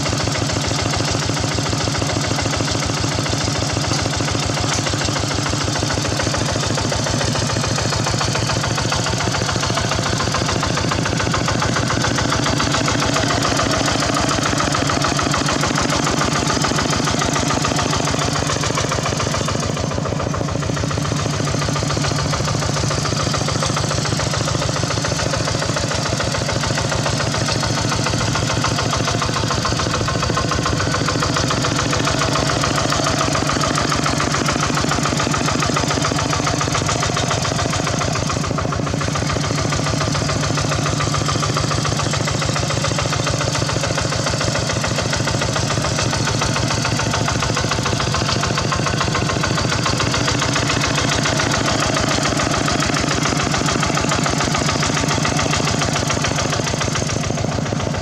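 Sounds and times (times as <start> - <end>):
tractor engine pulsing steadily: 0.0 - 58.0.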